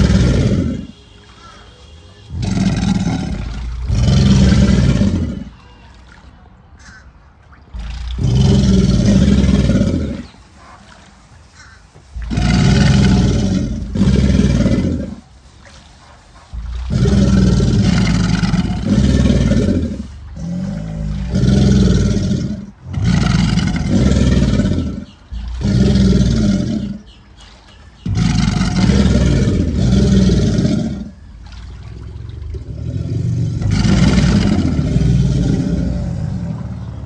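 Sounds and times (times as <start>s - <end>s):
alligators bellowing: 0.0s - 37.0s.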